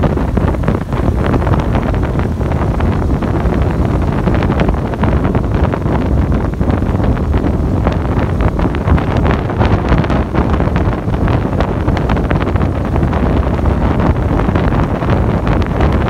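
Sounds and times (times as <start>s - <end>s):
motorbike rumble: 0.0s - 16.0s
wind buffeting microphone: 0.0s - 16.0s.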